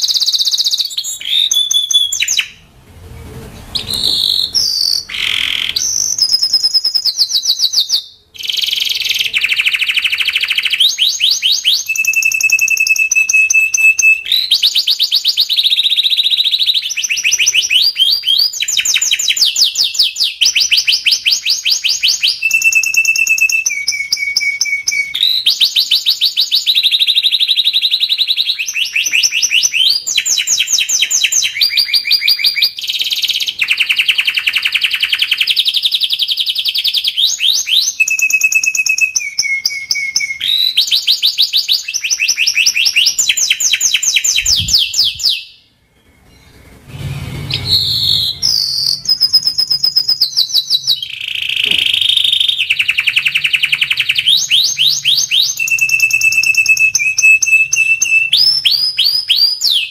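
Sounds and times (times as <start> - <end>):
canary singing trills: 0.0 - 2.7, 3.5 - 59.9.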